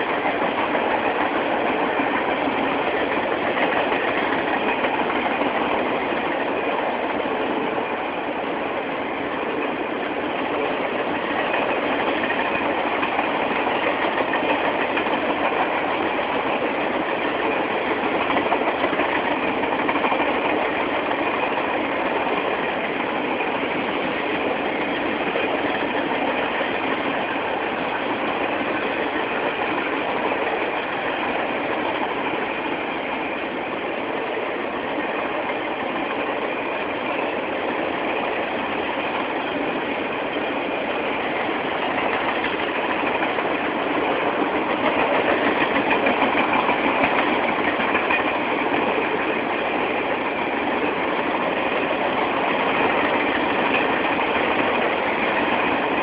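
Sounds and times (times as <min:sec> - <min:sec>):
train wheels rolling on rail: 0:00.0 - 0:56.0.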